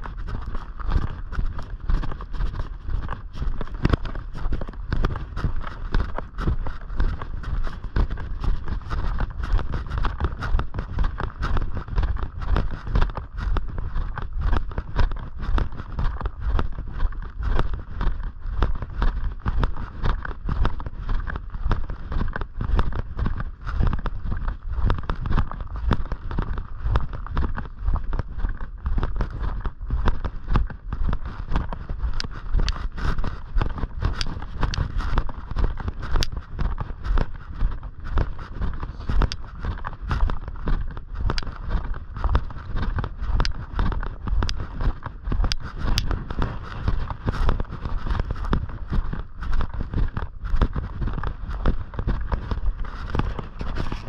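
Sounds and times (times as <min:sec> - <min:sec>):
footsteps crunching on snow: 0:00.0 - 0:54.0.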